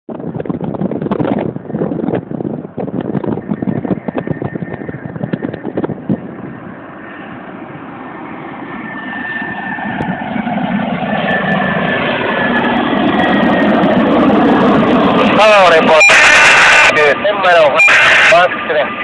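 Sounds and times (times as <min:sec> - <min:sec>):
wind buffeting microphone: 0:00.1 - 0:16.1
jet engine whine: 0:00.1 - 0:19.0.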